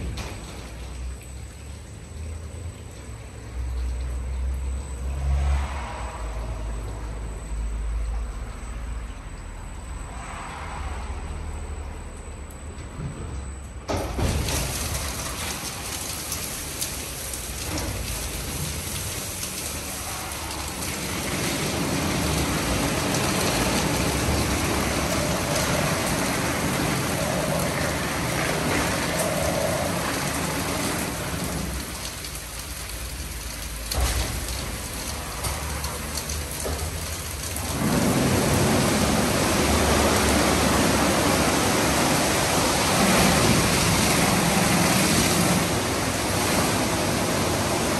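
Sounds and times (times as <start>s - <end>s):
water and brushes drumming on car: 0.0s - 11.5s, 13.9s - 47.9s.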